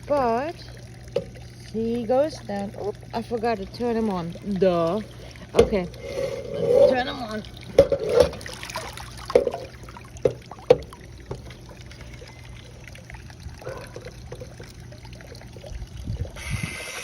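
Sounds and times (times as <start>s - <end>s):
pool water splashing: 0.0s - 17.0s
water trickling: 0.0s - 17.0s.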